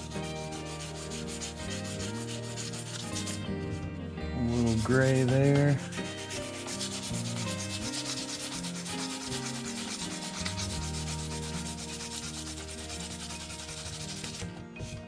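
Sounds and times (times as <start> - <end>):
sandpaper rubbing on paint: 0.0 - 15.0.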